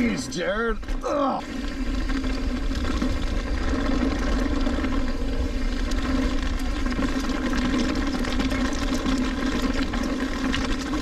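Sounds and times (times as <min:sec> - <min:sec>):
bike clicks and rattles: 0:00.0 - 0:11.0
bike tyre and drivetrain noise: 0:00.0 - 0:11.0.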